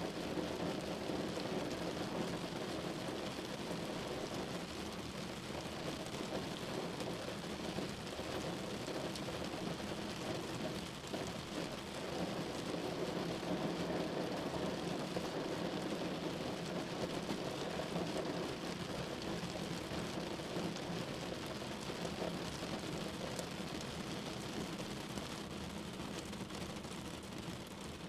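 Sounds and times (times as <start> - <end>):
rain on a window pane: 0.0 - 28.0.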